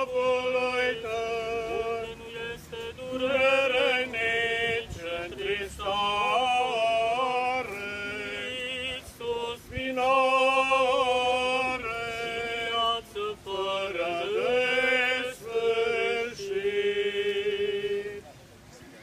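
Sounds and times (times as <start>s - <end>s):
men chanting a hymn: 0.0s - 18.3s.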